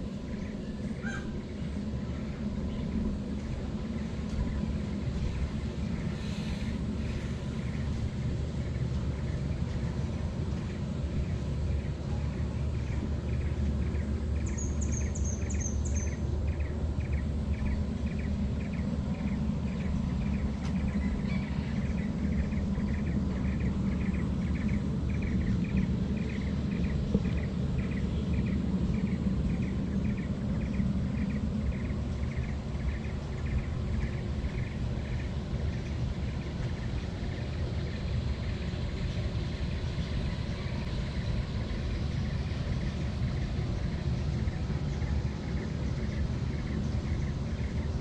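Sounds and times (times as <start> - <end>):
low outdoor rumble: 0.0 - 48.0.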